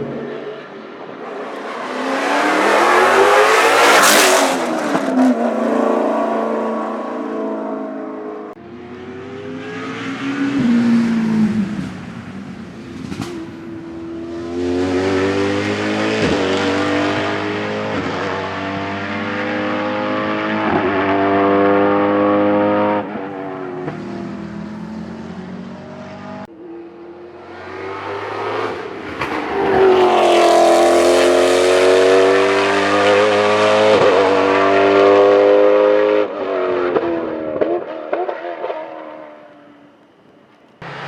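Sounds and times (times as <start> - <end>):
race car engine passing: 0.0 - 41.0.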